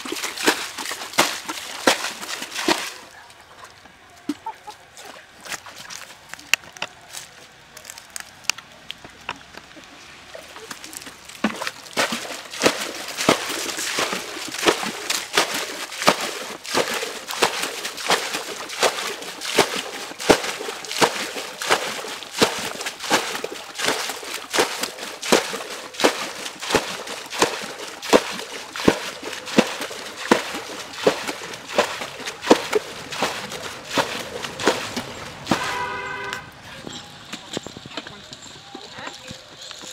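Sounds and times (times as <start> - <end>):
bucket scooping and splashing water: 0.0 - 6.3, 9.6 - 36.8.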